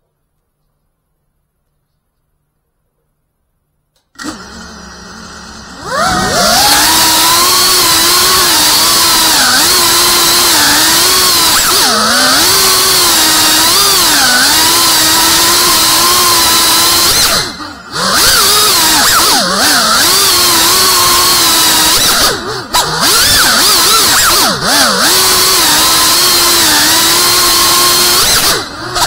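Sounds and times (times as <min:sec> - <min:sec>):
drone motors whining: 0:04.2 - 0:29.0.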